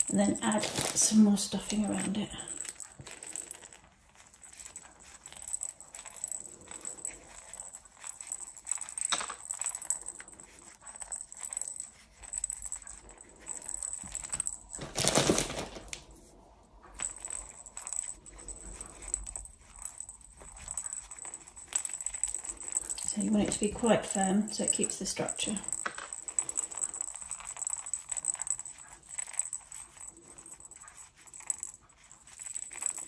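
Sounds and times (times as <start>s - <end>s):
rattle beads clinking: 0.0s - 33.0s
soft rustling of stuffing: 0.0s - 33.0s.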